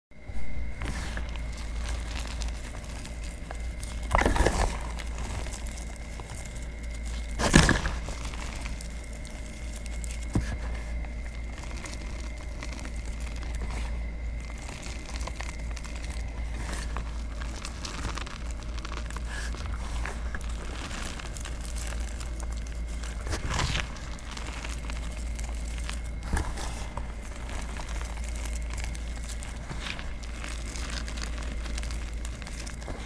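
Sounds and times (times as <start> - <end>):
low hum: 0.1 - 33.0
powder crumbling in gloved hand: 0.4 - 33.0.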